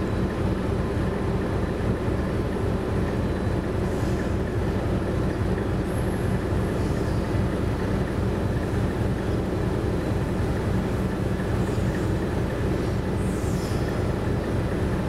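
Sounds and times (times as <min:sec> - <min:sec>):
diesel locomotive rumble: 0:00.0 - 0:15.0.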